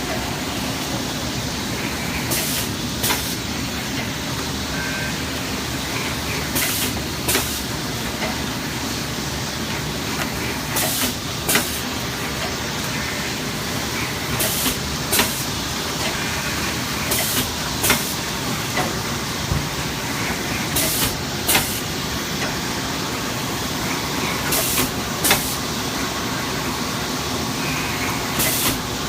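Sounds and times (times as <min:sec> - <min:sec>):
packing machine humming: 0:00.0 - 0:29.0.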